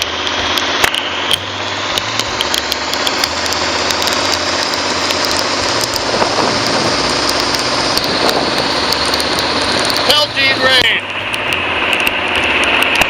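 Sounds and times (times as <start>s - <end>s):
boat motor running: 0.0s - 13.0s
heavy rain: 0.0s - 13.0s
raindrops tapping close by: 0.0s - 13.0s.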